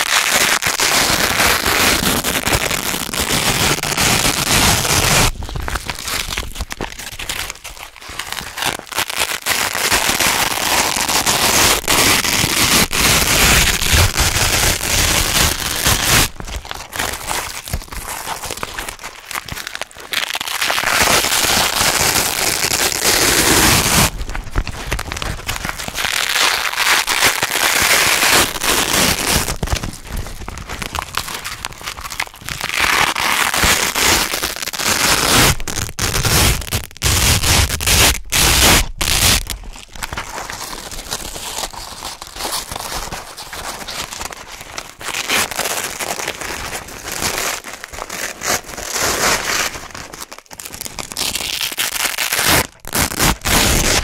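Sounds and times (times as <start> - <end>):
velcro fastener ripping apart: 0.0 - 54.0.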